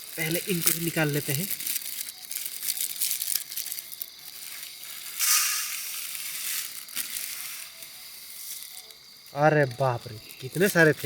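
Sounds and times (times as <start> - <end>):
plastic packets crackling: 0.0 - 11.0
puffed rice pouring: 0.0 - 11.0
puffed rice rustling: 0.0 - 11.0.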